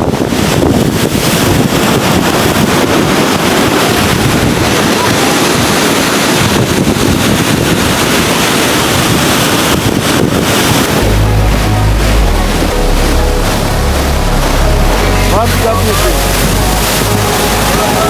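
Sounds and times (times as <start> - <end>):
ocean surf on rocks: 0.0 - 18.0
wind buffeting microphone: 0.0 - 18.0.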